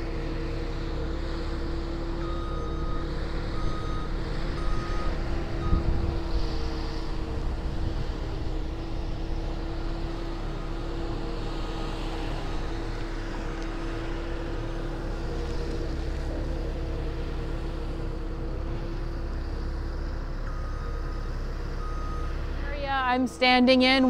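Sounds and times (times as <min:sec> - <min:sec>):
loader engine running: 0:00.0 - 0:24.0.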